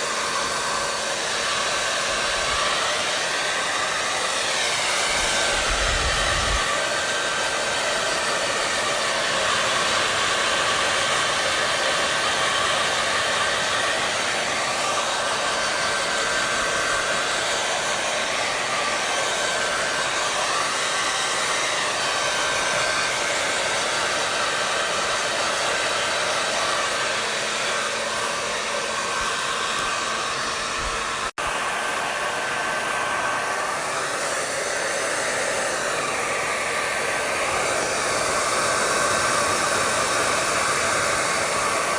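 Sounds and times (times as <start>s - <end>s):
hair dryer blowing: 0.0s - 41.9s.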